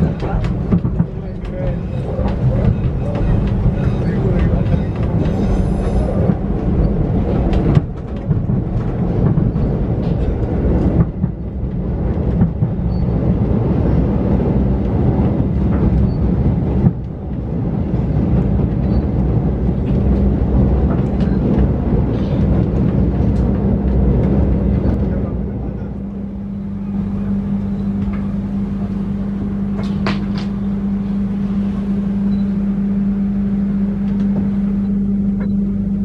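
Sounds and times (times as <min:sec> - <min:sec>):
low hum: 0:00.0 - 0:36.0
train wheels rumbling on rails: 0:00.0 - 0:36.0.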